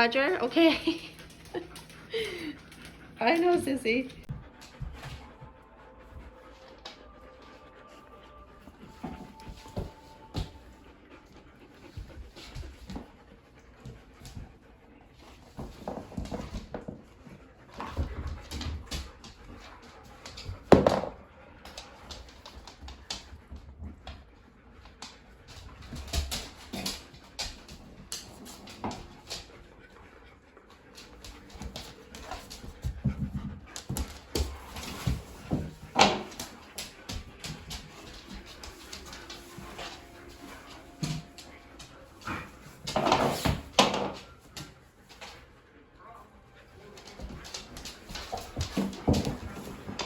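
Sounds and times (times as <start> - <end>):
dogs panting and whimpering: 0.0 - 50.0.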